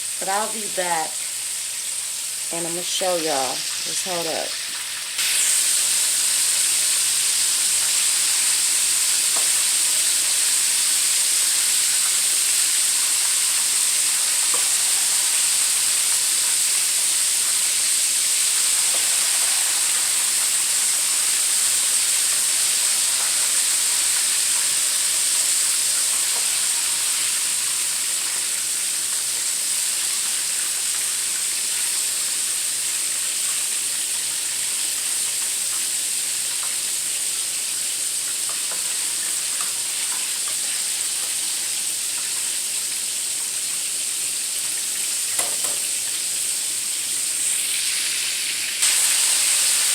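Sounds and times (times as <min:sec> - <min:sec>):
deep-frying sizzle: 0:00.0 - 0:49.9.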